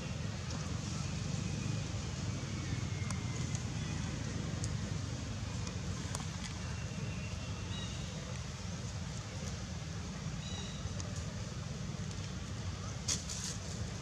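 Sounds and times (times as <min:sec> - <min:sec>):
faint hiss: 0:00.0 - 0:14.0
low outdoor rumble: 0:00.0 - 0:14.0.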